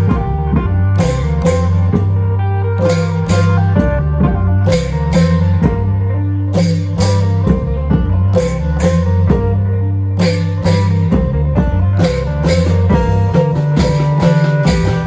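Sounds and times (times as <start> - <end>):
drum strikes: 0.0 - 15.0
low bass: 0.0 - 15.0
plucked string melody: 0.0 - 15.0.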